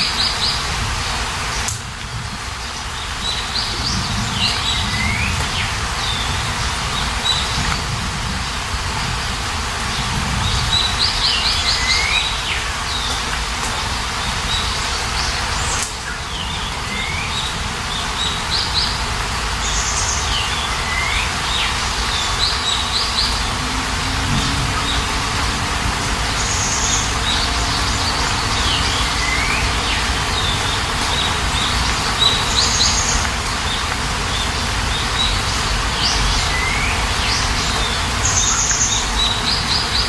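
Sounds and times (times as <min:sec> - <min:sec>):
songbird singing: 0:00.0 - 0:40.0
steady rain: 0:00.0 - 0:40.0.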